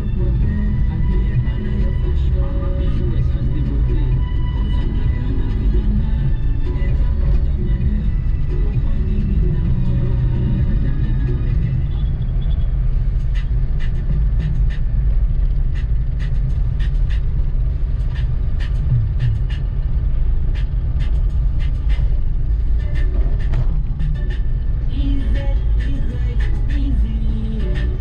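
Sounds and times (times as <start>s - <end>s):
car driving low rumble: 0.0s - 28.0s.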